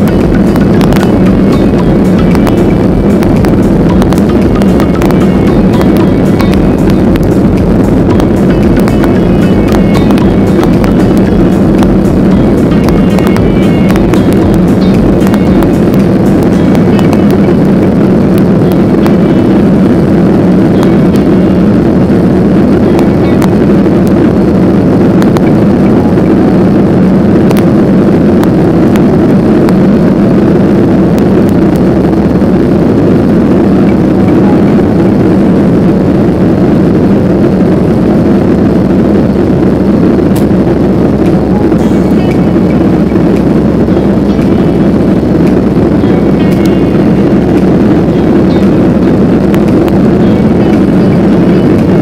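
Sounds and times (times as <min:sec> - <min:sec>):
jet engines droning: 0:00.0 - 0:52.0.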